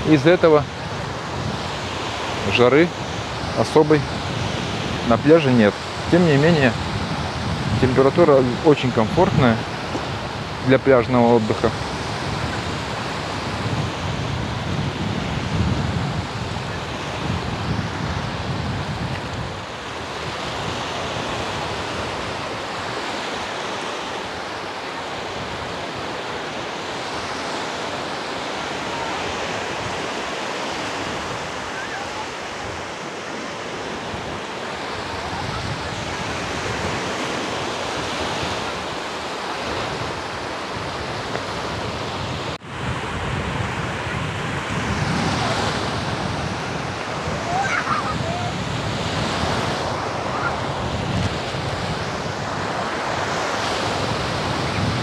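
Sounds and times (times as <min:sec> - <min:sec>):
waves breaking on beach: 0:00.0 - 0:55.0
wind buffeting microphone: 0:00.0 - 0:55.0.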